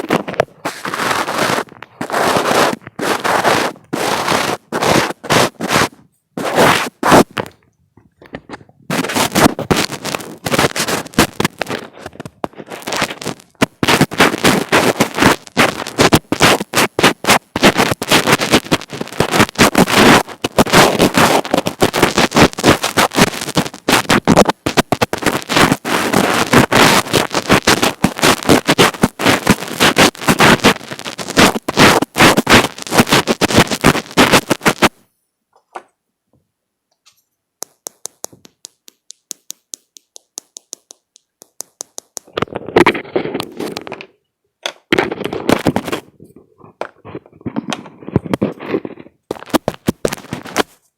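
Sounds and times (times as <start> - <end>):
fingers rubbing on microphone: 0.0 - 35.0, 36.9 - 44.1, 44.9 - 50.9.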